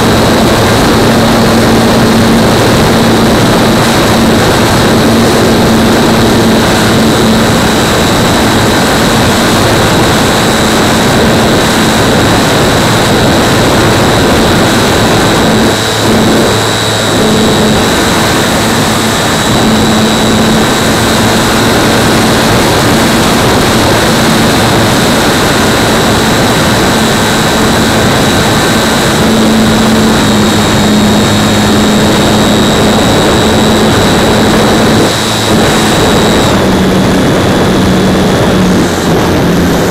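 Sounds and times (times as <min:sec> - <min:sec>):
aircraft propeller drone: 0:00.0 - 0:39.9
high steady whine: 0:00.0 - 0:39.9
wind rush: 0:00.0 - 0:39.9.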